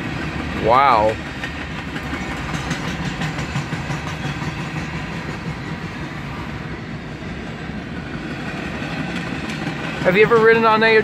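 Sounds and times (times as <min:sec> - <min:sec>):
freight train cars rumbling past: 0:00.0 - 0:11.0.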